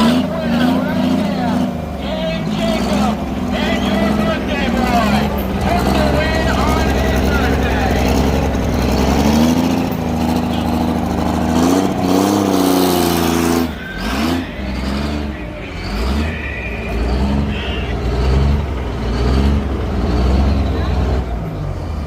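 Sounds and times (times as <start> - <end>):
truck engine revving under load: 0.0 - 22.0.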